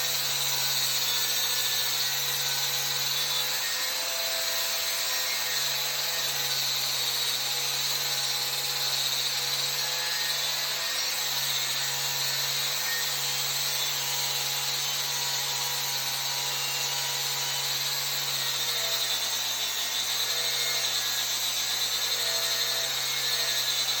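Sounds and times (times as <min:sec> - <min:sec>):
angle grinder grinding metal: 0:00.0 - 0:24.0.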